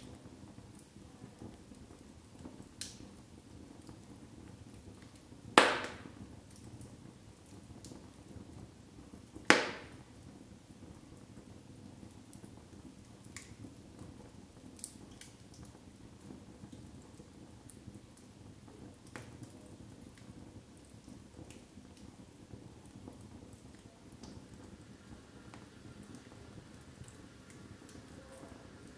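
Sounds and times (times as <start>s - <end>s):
burning wood popping: 0.0s - 28.9s
fire rustling and crackling: 0.0s - 28.9s.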